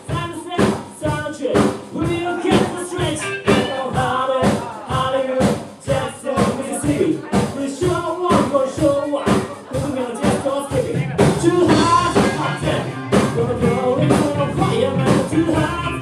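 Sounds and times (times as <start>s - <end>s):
drum kit hits: 0.0s - 16.0s
live funk band playing: 0.0s - 16.0s.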